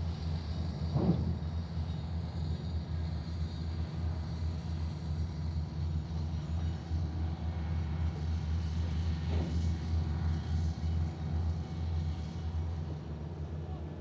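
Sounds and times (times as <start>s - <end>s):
crane diesel engine running: 0.0s - 14.0s.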